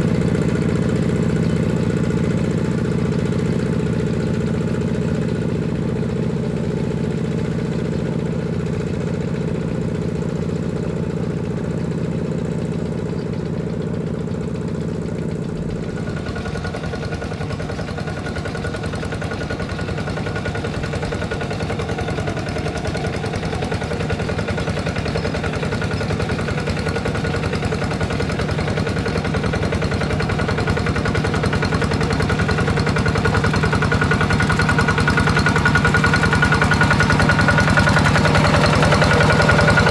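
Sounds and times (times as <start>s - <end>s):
diesel tractor engines running: 0.0s - 39.9s.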